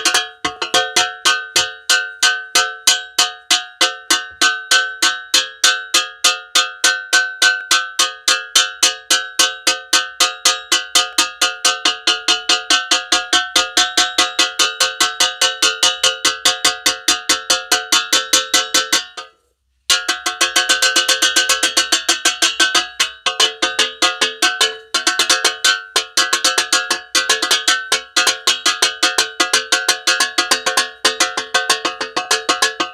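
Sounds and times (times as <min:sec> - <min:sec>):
metal spoon banging on saucepan: 0:00.0 - 0:19.3, 0:19.9 - 0:32.9.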